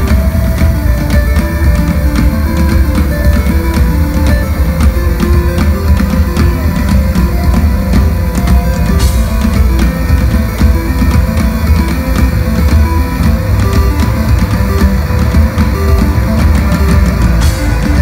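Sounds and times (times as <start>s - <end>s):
deep bass: 0.0s - 18.0s
drum kit steady beat: 0.0s - 18.0s
keyboards: 0.0s - 18.0s.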